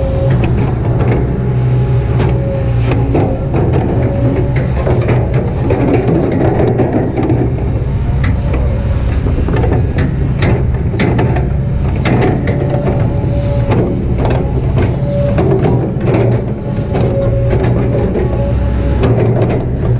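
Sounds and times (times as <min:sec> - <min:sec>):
excavator diesel engine running: 0:00.0 - 0:19.9
machine knocks and clanks: 0:00.2 - 0:19.9.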